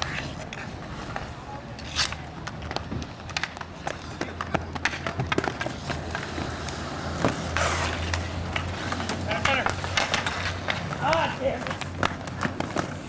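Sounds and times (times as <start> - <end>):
hockey sticks clacking on pavement: 0.0 - 13.0
skate wheels rolling on asphalt: 0.0 - 13.0
skates scraping: 0.0 - 13.0.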